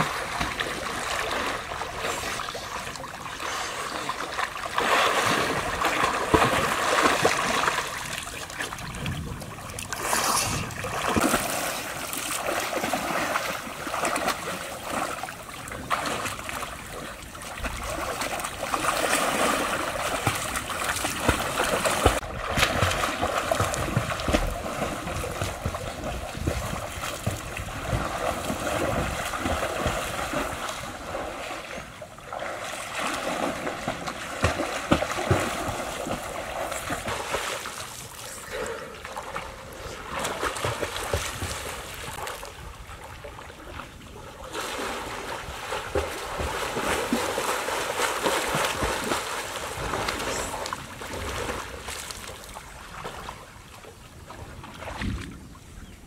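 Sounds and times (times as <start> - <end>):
pool water splashing: 0.0 - 55.2.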